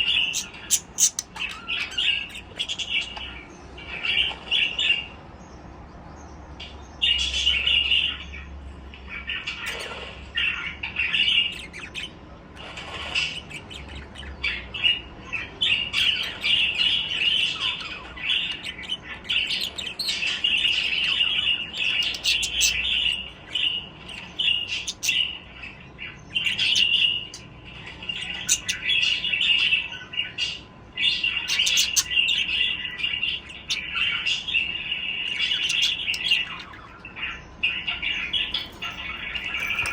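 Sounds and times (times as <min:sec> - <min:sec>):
budgerigars chattering: 0:00.0 - 0:04.3, 0:09.3 - 0:39.9.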